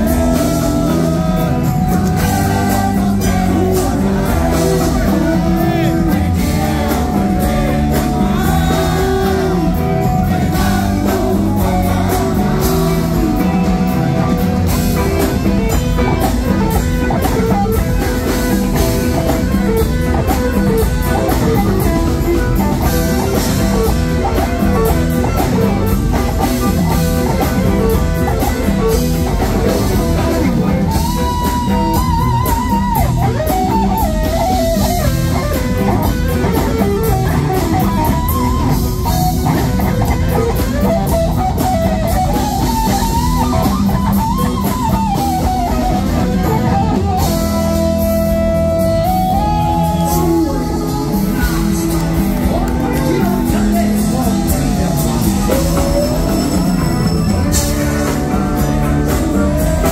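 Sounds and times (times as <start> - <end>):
lead guitar bending notes: 0.0 - 59.9
rock band playing: 0.0 - 59.9.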